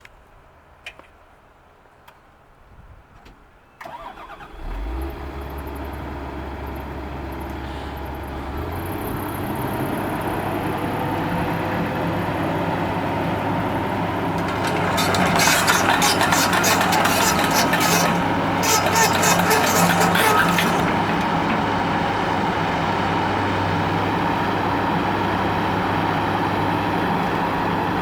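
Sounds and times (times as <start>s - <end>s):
diesel engine starting: 3.8s - 28.0s.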